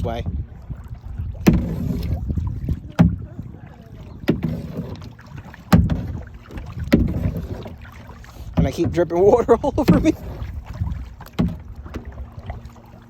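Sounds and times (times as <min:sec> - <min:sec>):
kayak paddle strokes splashing: 0:00.0 - 0:13.0
water sloshing against hull: 0:00.0 - 0:13.0.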